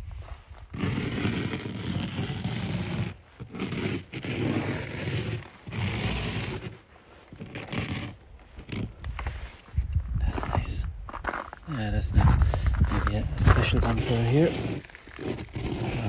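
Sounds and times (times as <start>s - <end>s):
finger scraping through snow: 0.1s - 10.7s, 12.1s - 16.0s.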